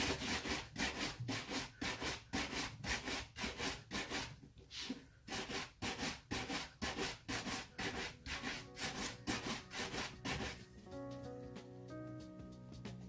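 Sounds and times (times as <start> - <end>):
shoe brush buffing leather: 0.0 - 10.7.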